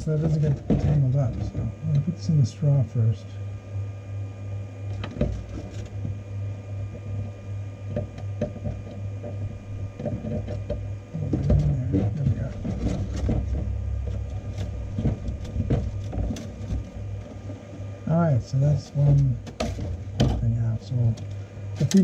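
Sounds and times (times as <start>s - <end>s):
printer fans humming: 0.0s - 22.0s.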